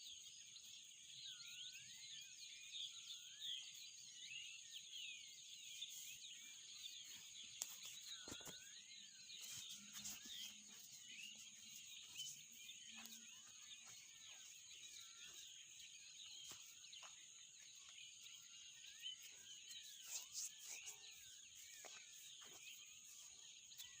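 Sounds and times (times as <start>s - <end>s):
small birds chirping: 0.0s - 24.0s
high insect drone: 0.1s - 24.0s.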